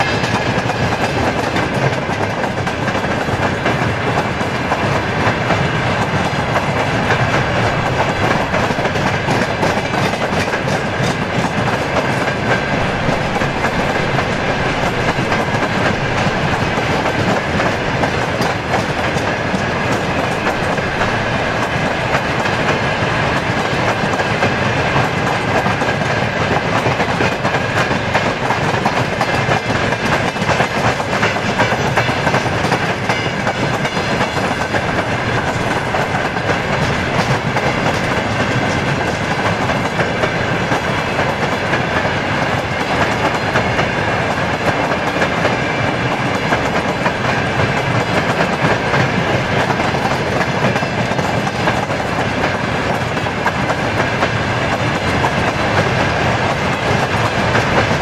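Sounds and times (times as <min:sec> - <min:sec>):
train wheels clattering over rail joints: 0:00.0 - 0:58.0.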